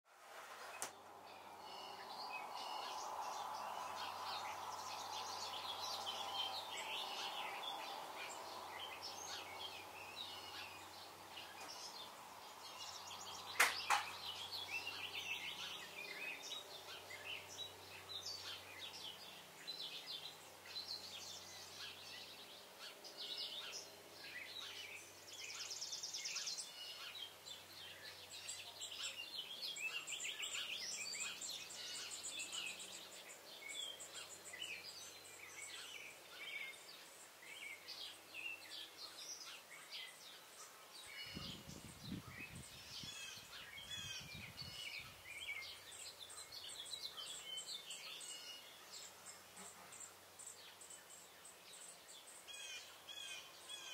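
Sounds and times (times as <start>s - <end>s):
birds chirping and trilling: 0.5s - 53.9s.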